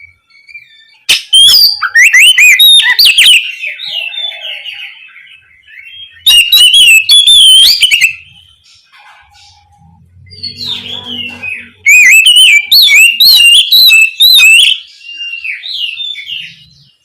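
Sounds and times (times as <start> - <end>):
bird singing whistled phrases: 0.0 - 8.4, 10.3 - 16.9
bird twittering: 0.0 - 17.0.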